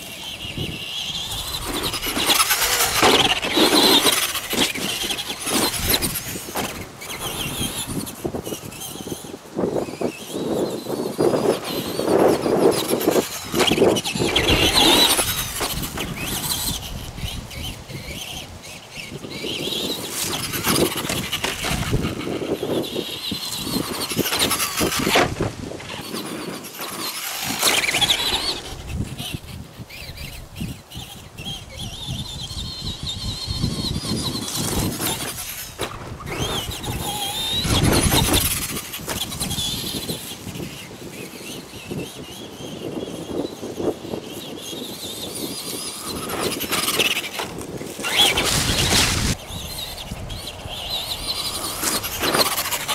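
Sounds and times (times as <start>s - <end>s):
tyres running over dirt: 0.0s - 43.1s, 44.3s - 52.9s
electric motor whining: 0.0s - 52.9s.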